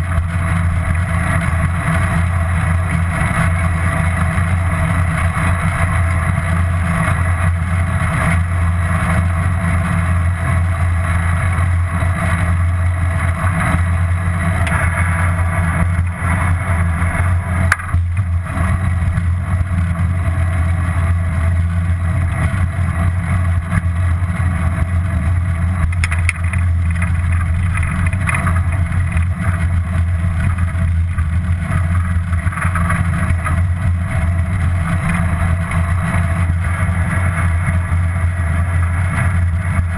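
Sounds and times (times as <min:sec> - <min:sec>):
bicycle tyre noise: 0:00.0 - 0:39.9.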